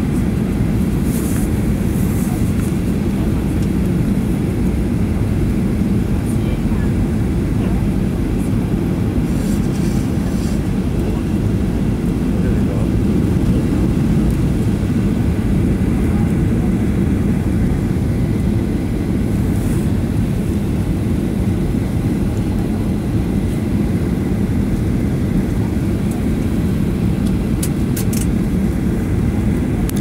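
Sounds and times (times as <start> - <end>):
jet engine roar in cabin: 0.0 - 30.0.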